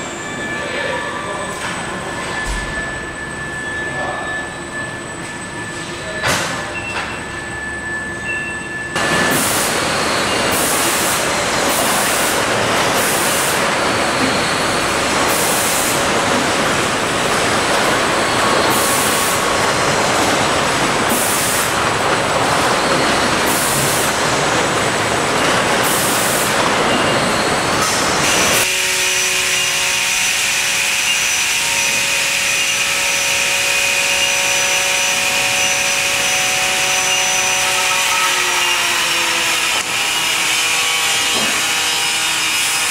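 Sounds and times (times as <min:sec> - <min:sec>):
industrial machinery noise: 0:00.0 - 0:42.9
machine hum with constant tones: 0:00.0 - 0:42.9.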